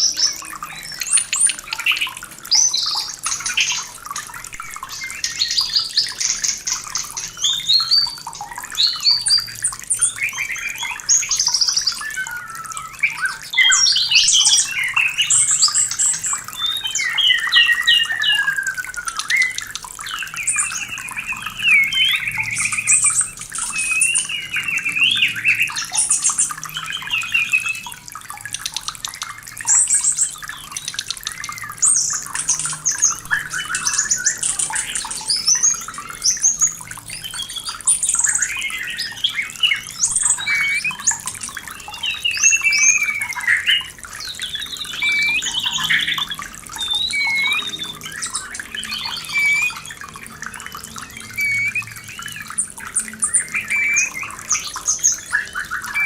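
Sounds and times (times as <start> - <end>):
bird singing whistled song: 0.0 - 56.0
running water: 0.0 - 56.0.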